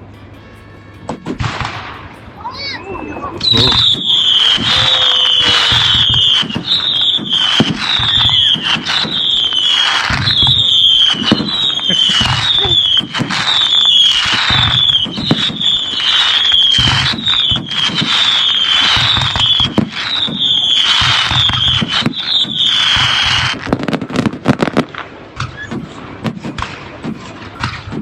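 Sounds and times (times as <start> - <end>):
fireworks bangs: 0.0 - 28.0
fireworks crackling: 0.0 - 28.0
whistling fireworks: 0.0 - 28.0.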